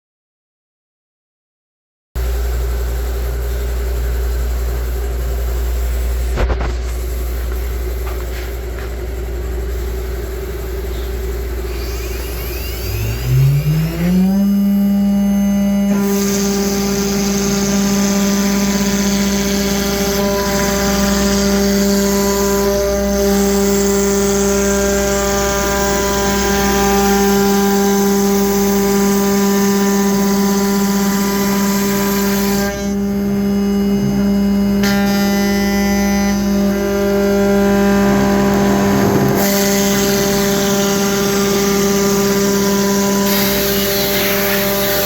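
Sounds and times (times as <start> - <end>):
router spindle whining: 2.2 - 45.0.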